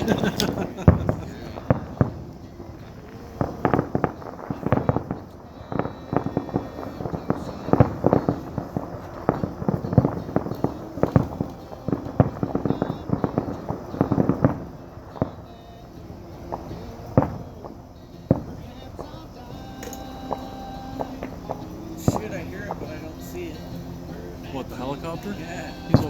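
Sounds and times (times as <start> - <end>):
fireworks popping and banging: 0.0 - 26.0.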